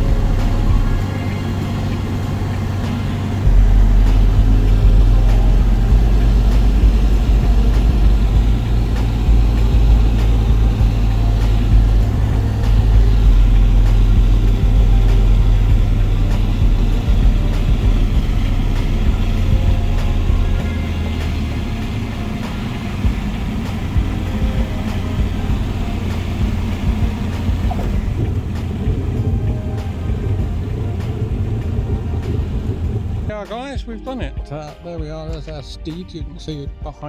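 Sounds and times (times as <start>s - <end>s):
light aircraft engine droning: 0.0s - 33.8s.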